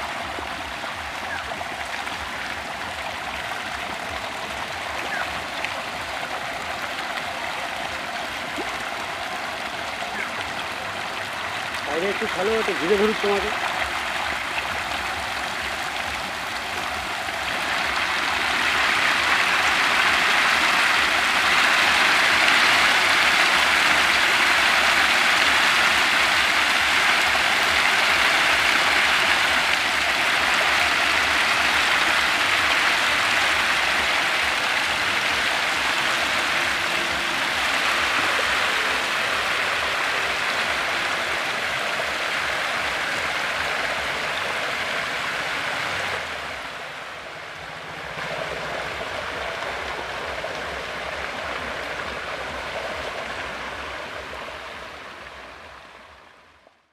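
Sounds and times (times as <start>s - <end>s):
fish splashing and churning water: 0.0s - 56.4s.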